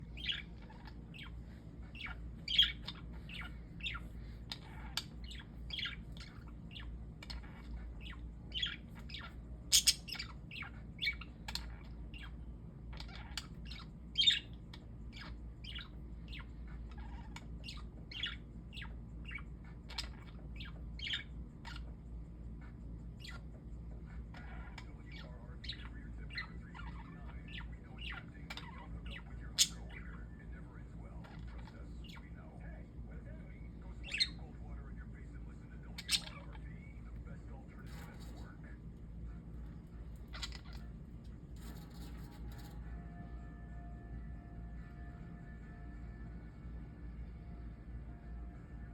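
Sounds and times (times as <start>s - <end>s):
parakeets squawking: 0.0s - 44.2s
faint low hum: 0.0s - 48.9s
parakeets chirping: 0.0s - 48.9s.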